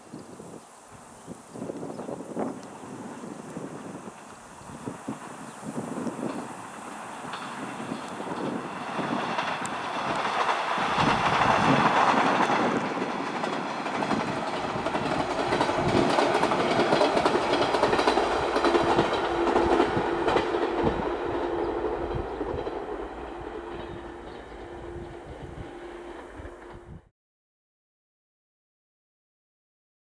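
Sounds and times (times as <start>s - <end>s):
train wheels clicking over rail joints: 1.5s - 27.0s.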